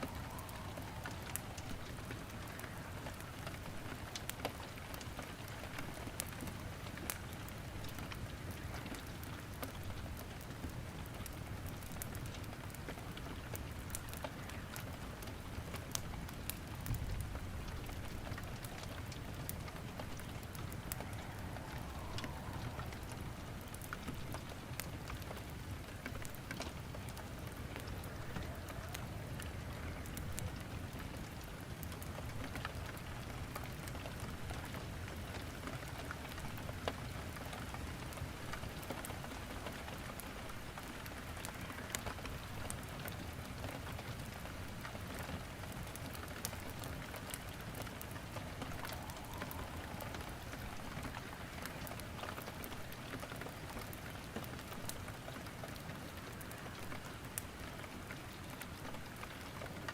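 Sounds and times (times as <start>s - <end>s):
steady rain: 0.0s - 59.9s
wood crackling in fireplace: 0.0s - 59.9s.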